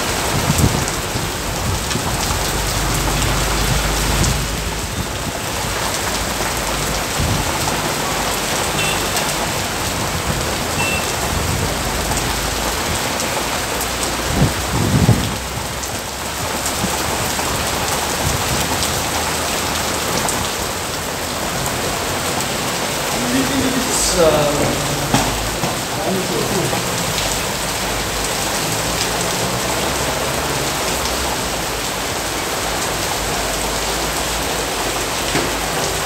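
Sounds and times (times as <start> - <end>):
heavy rain falling: 0.0 - 36.0.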